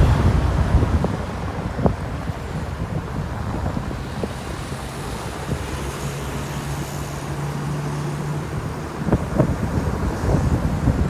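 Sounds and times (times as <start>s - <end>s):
low engine hum: 0.0s - 11.0s
vehicle road noise: 0.0s - 11.0s
wind buffeting microphone: 0.0s - 11.0s.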